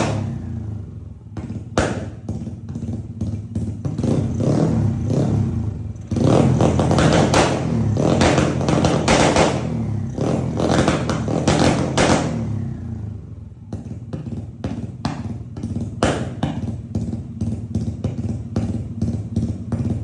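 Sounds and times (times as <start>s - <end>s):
scooter engine revving and idling: 0.0s - 20.0s.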